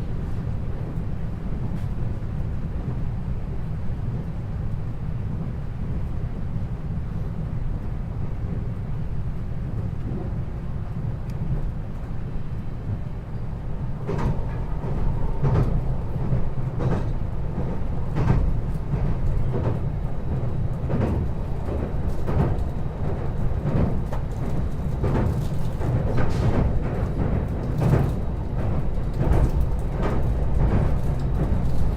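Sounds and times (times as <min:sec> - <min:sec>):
train car low rumble: 0:00.0 - 0:31.9.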